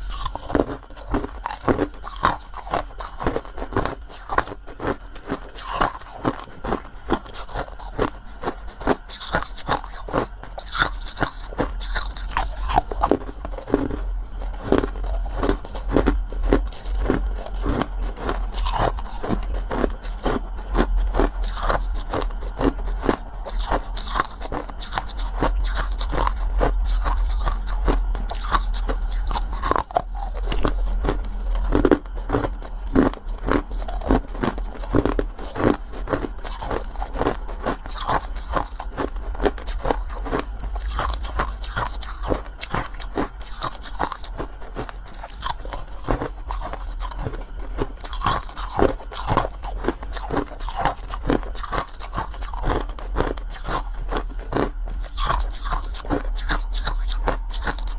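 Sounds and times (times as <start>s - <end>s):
crunching bites and chewing: 0.0s - 57.9s.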